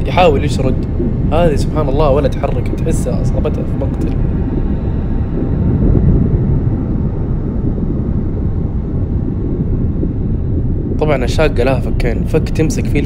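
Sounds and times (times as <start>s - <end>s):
muffled underwater rumble: 0.0s - 13.0s.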